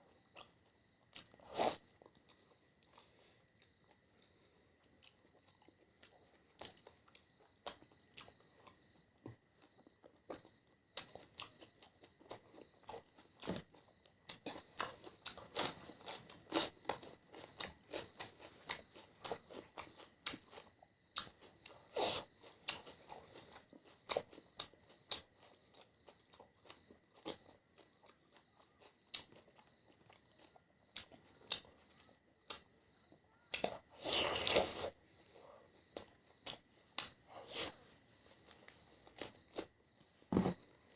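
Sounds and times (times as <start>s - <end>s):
person chewing crunchy food: 0.1s - 40.9s.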